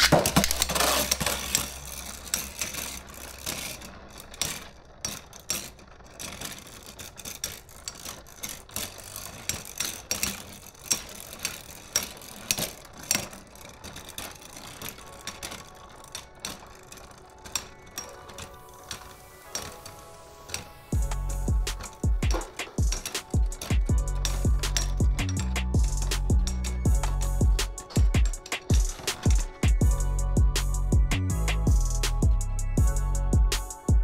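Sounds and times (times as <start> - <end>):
metallic clacks of tops colliding: 0.0 - 32.4
spinning tops whirring on plastic: 0.0 - 34.0.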